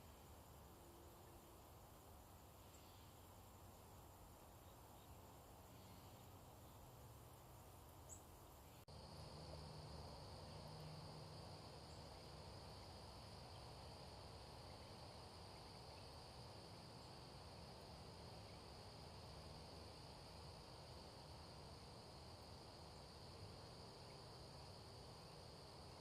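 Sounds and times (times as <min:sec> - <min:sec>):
insects chirping: 0:00.0 - 0:26.0.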